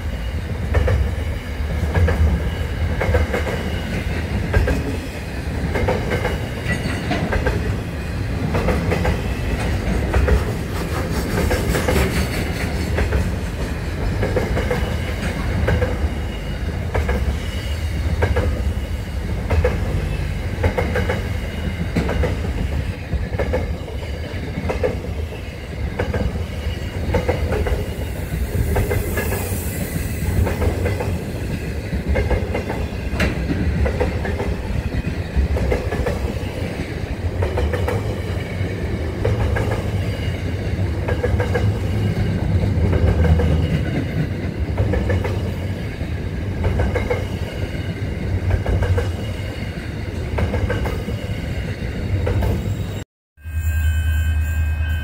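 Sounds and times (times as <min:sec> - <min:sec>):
train wheels clacking on track: 0:00.0 - 0:52.7
freight train rumbling past: 0:00.0 - 0:55.0.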